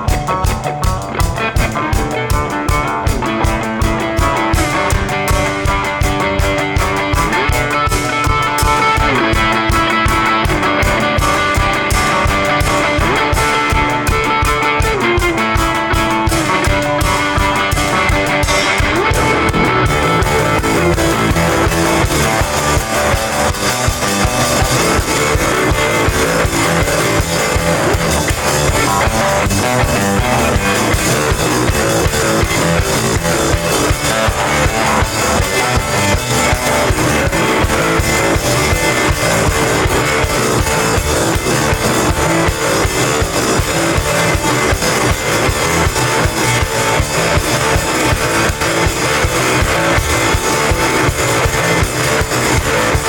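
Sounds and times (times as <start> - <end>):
drum kit: 0.0 - 53.0
electric guitar: 0.0 - 53.0.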